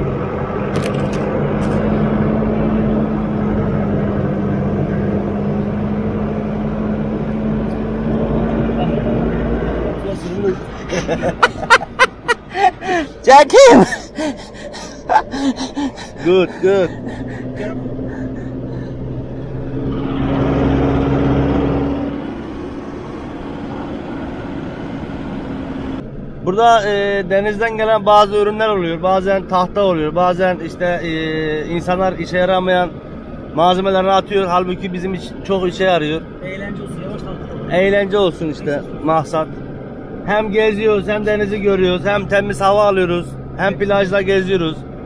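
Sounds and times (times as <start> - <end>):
pickup engine hum: 0.0 - 45.0
tyre and road noise: 0.0 - 45.0.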